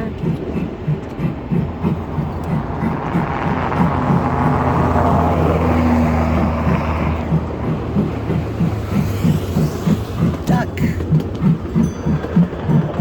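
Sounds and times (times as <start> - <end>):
broad rushing sound: 0.0 - 13.0
low hum: 0.0 - 13.0
miniature train rhythmic clicking: 0.0 - 13.0.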